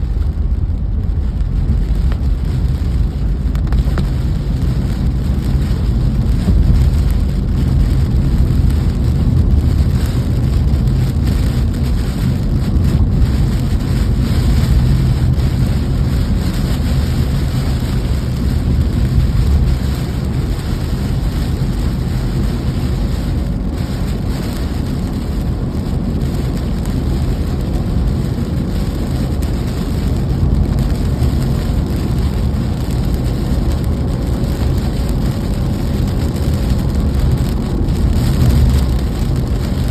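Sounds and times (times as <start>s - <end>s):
low rumble: 0.0s - 39.9s
rain: 0.0s - 39.9s.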